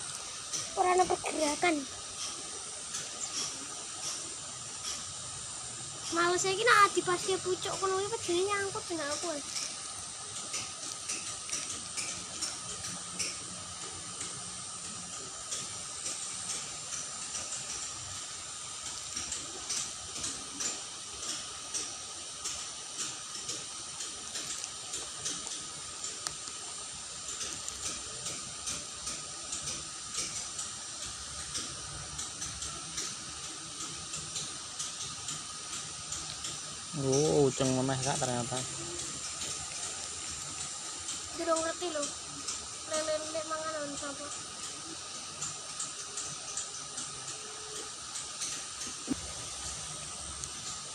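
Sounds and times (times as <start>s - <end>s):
water running in ditch: 0.0s - 50.9s.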